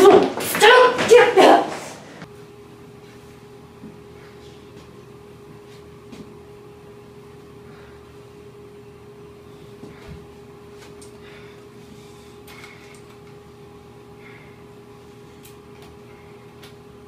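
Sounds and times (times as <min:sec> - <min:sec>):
electrical room hum: 0:00.0 - 0:17.0.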